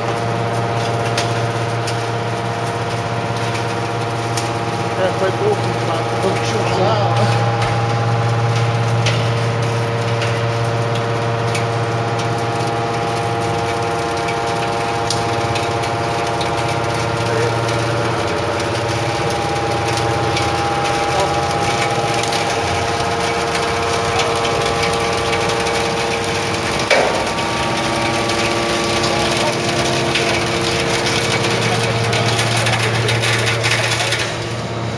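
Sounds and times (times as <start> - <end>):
hydraulic machine humming and whining: 0.0 - 34.9.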